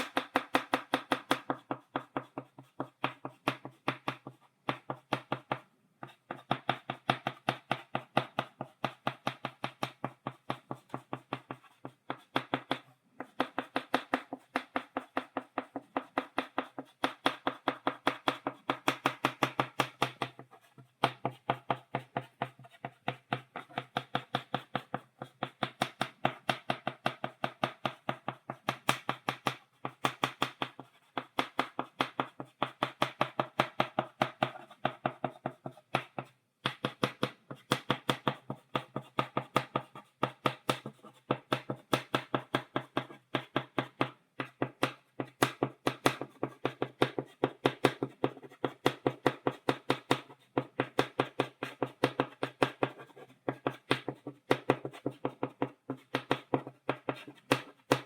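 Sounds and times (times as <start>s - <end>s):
chalk tapping on a blackboard: 0.0s - 58.0s.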